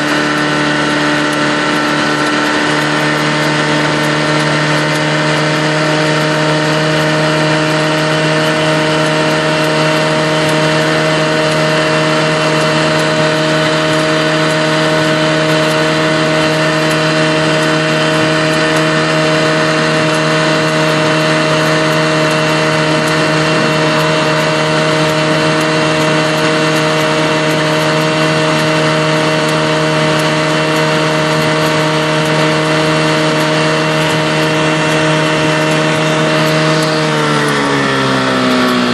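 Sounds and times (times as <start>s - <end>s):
boat wake rushing: 0.0s - 38.9s
outboard motor running: 0.0s - 38.9s
wind: 0.0s - 38.9s.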